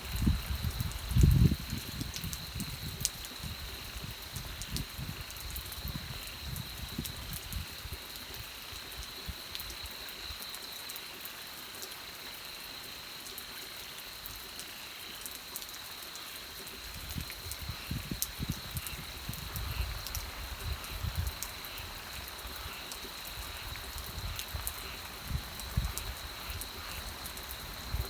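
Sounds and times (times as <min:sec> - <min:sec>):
raindrops ticking: 0:00.0 - 0:11.1, 0:14.1 - 0:28.0
steady rain: 0:00.0 - 0:28.0.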